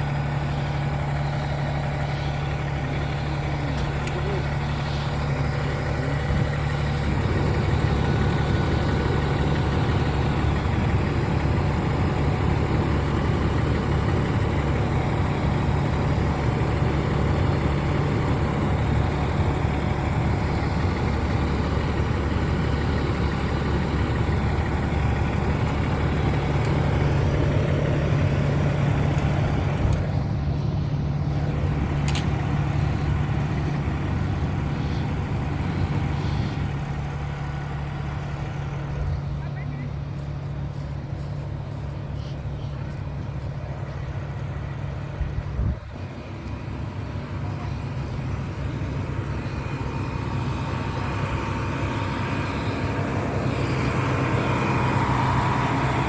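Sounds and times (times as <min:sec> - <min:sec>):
large vehicle engine idling: 0:00.0 - 0:56.0.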